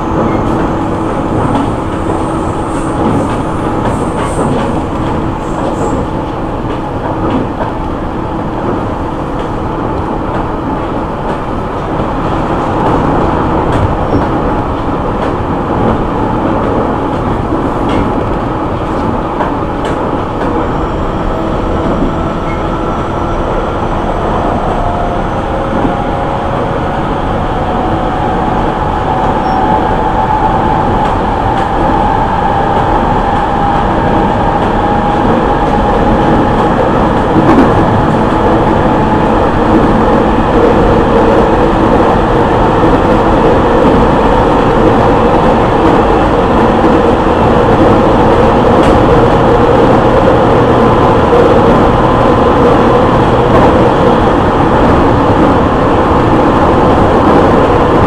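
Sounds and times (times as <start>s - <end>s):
wheel and rail rumble: 0.0s - 58.0s.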